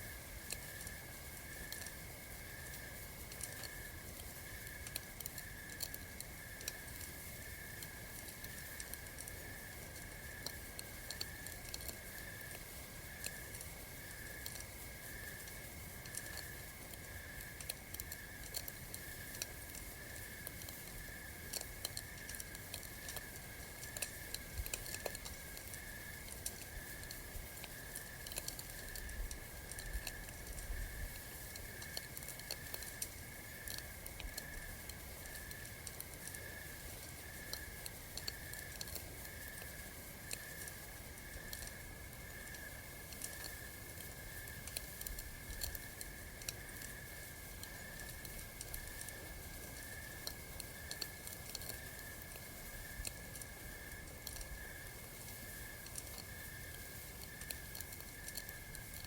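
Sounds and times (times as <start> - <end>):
campfire crackling: 0.0 - 59.0
night insects chirping: 0.0 - 59.0.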